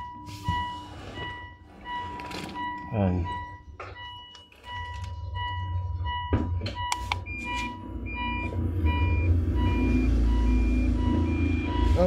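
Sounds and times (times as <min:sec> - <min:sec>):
alternating high and low beeps: 0:00.0 - 0:12.0
electronic beeping: 0:00.0 - 0:12.0
steady low rumble: 0:01.4 - 0:11.9.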